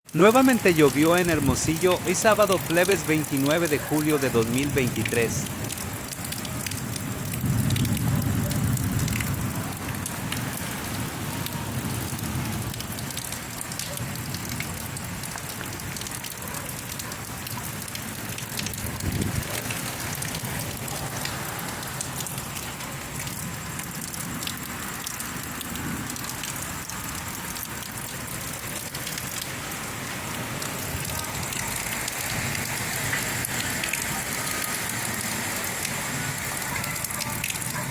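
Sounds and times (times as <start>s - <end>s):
rain pattering: 0.0s - 37.9s.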